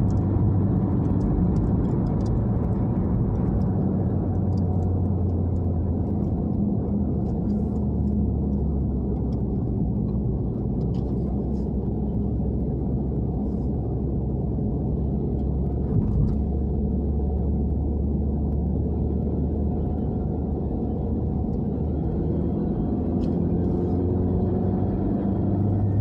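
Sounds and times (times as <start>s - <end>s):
car engine droning in cabin: 0.0s - 26.0s.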